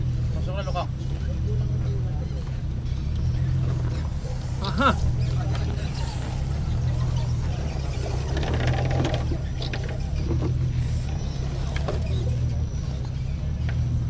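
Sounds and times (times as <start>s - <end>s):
low engine hum: 0.0s - 14.0s
toy truck tyres scraping rock: 2.5s - 14.0s.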